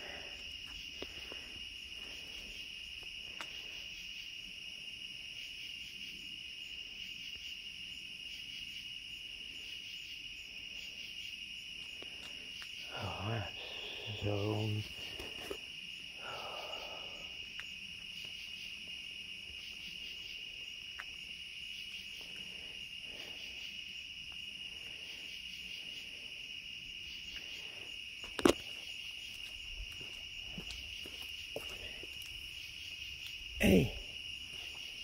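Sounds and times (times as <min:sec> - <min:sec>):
night insects trilling: 0:00.0 - 0:35.0.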